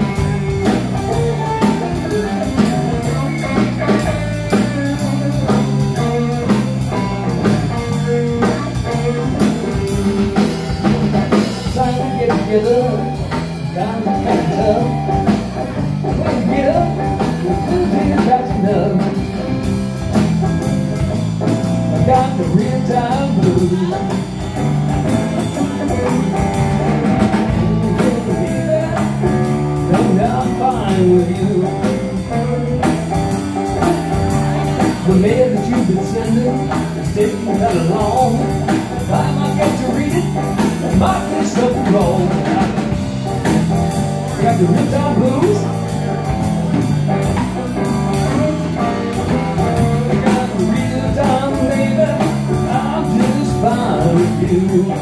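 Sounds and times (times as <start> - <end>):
drum kit steady beat: 0.0 - 55.0
electric bass: 0.0 - 55.0
electric guitar: 0.0 - 55.0.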